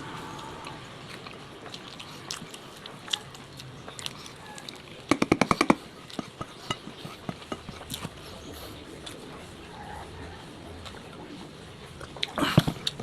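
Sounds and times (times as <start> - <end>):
chewing and crunching: 0.0 - 13.0.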